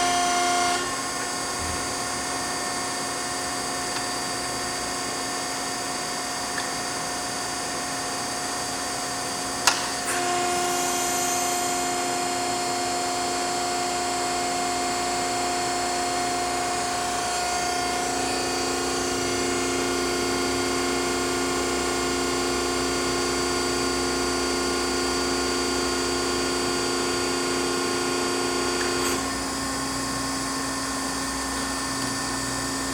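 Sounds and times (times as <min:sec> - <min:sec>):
high machine whine: 0:00.0 - 0:32.9
hydraulic pump humming: 0:00.0 - 0:32.9.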